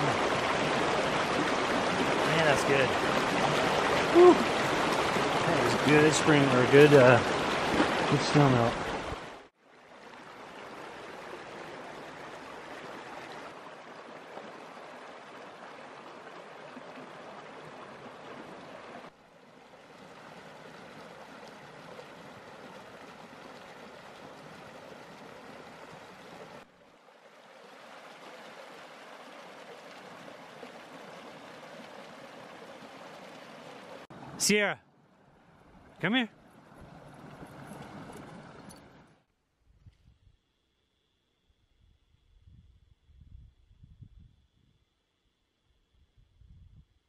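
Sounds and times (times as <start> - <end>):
creek water running over rocks: 0.0 - 34.7, 35.4 - 39.2.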